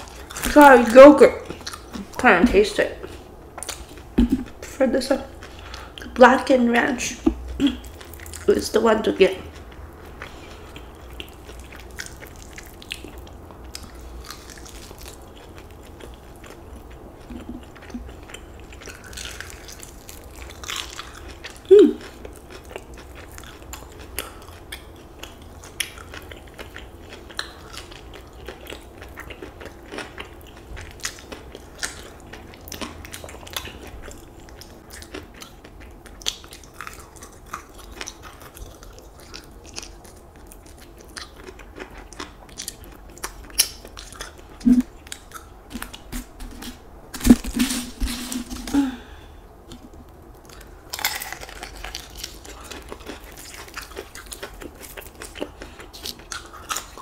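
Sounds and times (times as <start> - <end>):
chewing and biting: 1.4 - 2.2, 9.5 - 48.7, 49.7 - 57.0.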